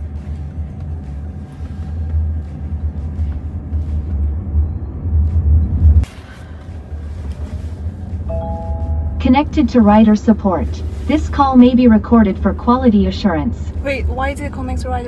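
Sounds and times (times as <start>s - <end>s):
road rumble inside car: 0.0s - 15.0s.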